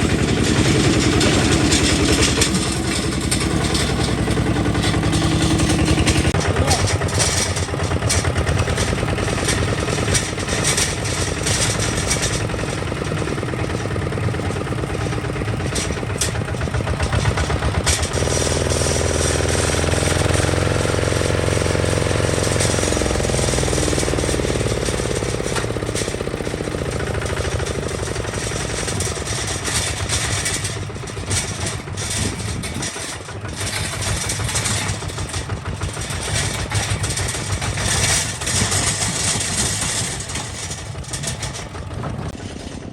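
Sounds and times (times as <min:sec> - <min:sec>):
diesel tractor engine chugging: 0:00.0 - 0:42.9.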